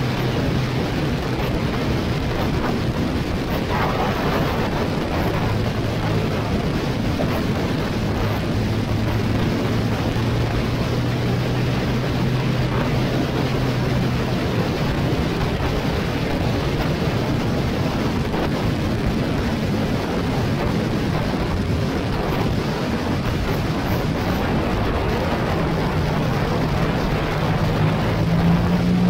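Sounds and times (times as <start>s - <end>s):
motorcycle engine drone: 0.0s - 29.0s
wind rush on microphone: 0.0s - 29.0s.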